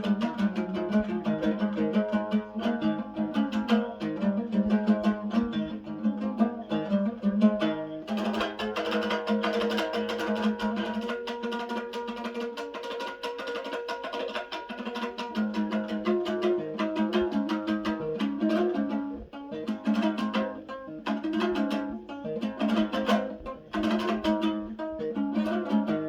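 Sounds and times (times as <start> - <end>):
plucked strings strummed fast: 0.0 - 26.0.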